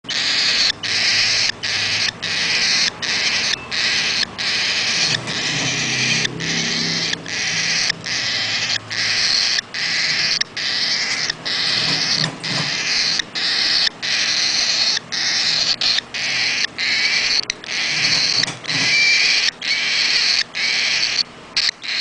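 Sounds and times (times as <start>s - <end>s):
nestlings cheeping: 0.1s - 22.0s.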